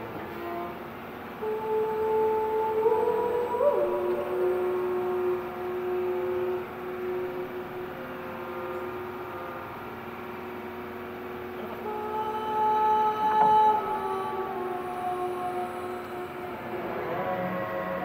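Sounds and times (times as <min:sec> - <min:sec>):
ambient music with horn-like notes: 0:00.0 - 0:18.0.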